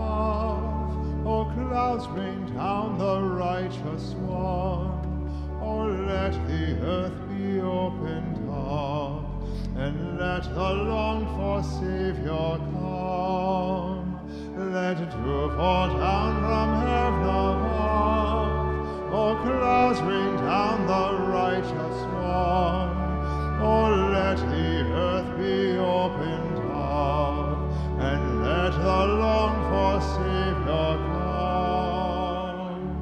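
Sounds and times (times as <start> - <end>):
hymn singing with vibrato: 0.0 - 33.0
pipe organ: 0.0 - 33.0.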